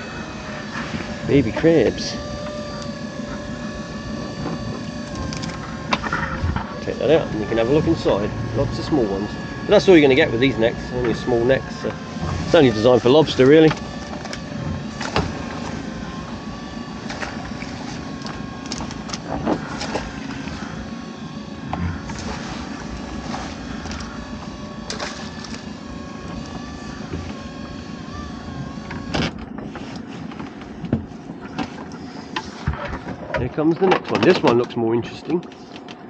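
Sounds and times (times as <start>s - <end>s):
boat motor running: 0.0s - 36.0s.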